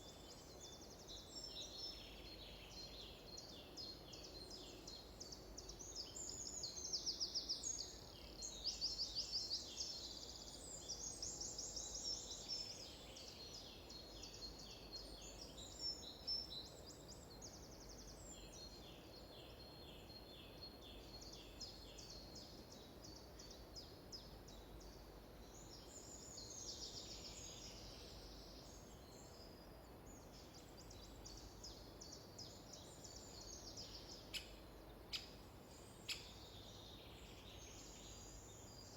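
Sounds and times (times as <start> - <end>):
faint steady hiss: 0.0 - 38.9
songbirds chirping and trilling: 0.0 - 38.9.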